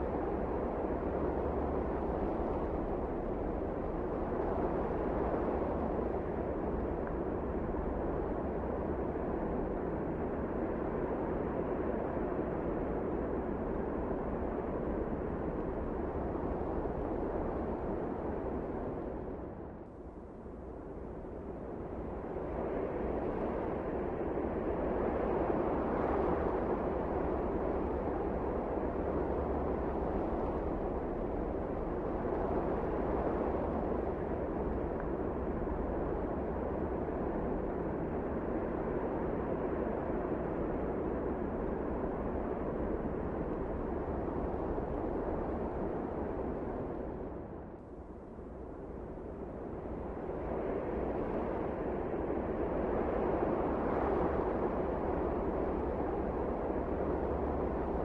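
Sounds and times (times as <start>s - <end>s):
blizzard wind blowing: 0.0s - 58.0s.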